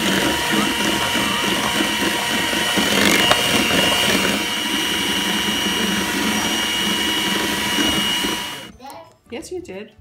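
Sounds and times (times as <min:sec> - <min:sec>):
electric hand mixer running: 0:00.0 - 0:08.7.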